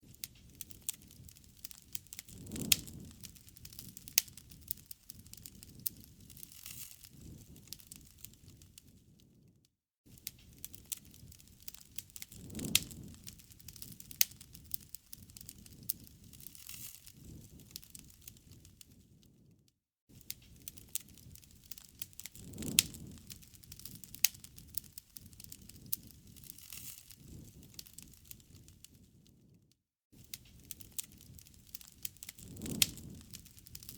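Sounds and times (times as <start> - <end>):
low hiss of flames: 0.0 - 9.5, 10.1 - 29.6, 30.2 - 33.9
wood fire crackling and popping: 0.0 - 33.9.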